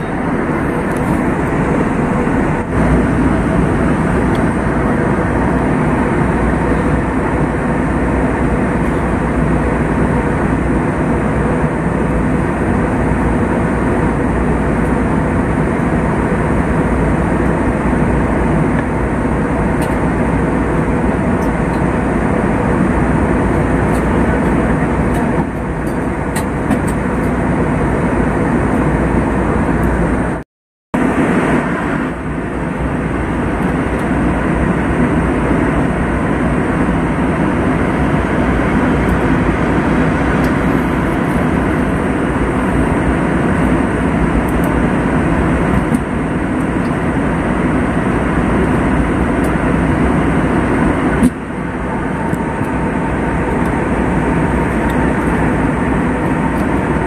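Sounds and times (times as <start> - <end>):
airliner cabin engine noise: 0.0 - 30.4, 31.0 - 57.0.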